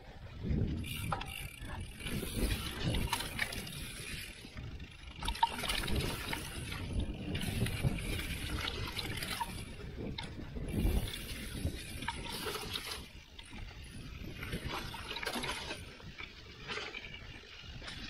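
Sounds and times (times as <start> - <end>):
bike rattling over bumps: 0.0 - 18.0
wind rumbling on microphone: 0.0 - 18.0.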